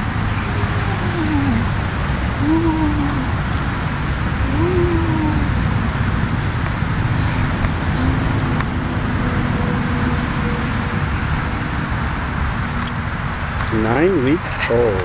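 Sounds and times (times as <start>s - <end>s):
faint engine hum: 0.0s - 15.0s
road traffic rumble: 0.0s - 15.0s.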